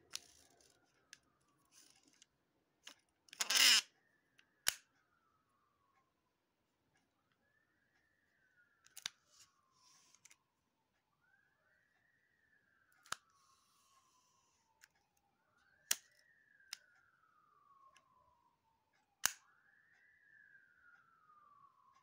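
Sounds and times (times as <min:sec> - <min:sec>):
distant siren wailing: 0:00.0 - 0:22.0.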